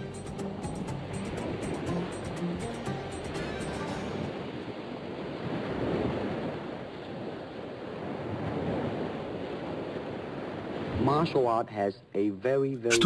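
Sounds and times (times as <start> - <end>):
ocean waves rushing: 0.0 - 11.5.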